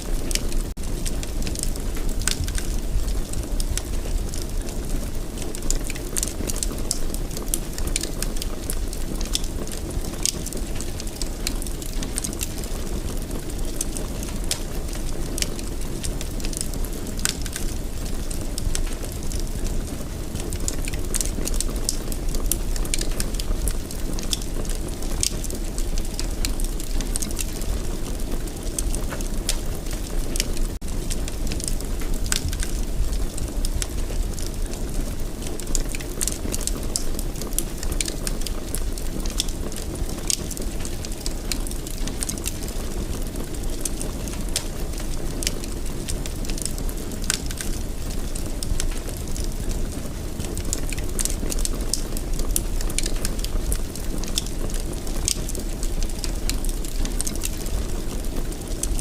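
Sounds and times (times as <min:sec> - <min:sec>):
fire crackles and pops: 0:00.0 - 0:59.0
fire flames rushing: 0:00.1 - 0:59.0.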